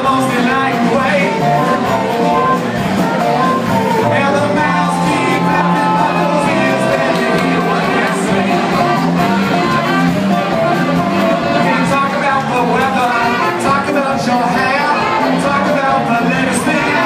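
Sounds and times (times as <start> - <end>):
live blues-rock band playing: 0.0 - 17.0
bending lead guitar line: 0.7 - 17.0.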